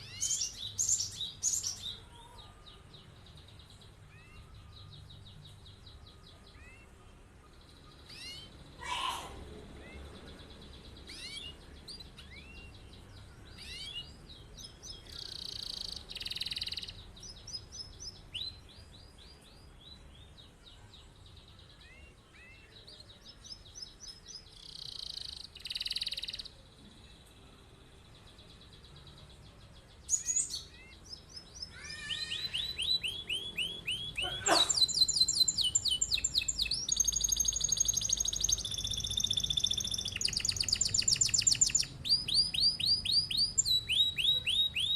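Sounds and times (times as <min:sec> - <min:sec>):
canary singing: 0:00.0 - 0:06.9, 0:07.7 - 0:20.5, 0:21.2 - 0:26.7, 0:30.0 - 0:44.9.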